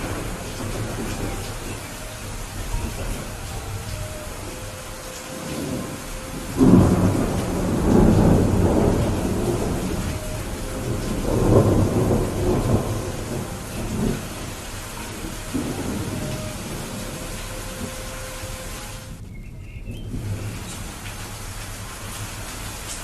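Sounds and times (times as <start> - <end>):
steady rain: 0.0 - 23.0
thunder rumbling: 0.0 - 23.0.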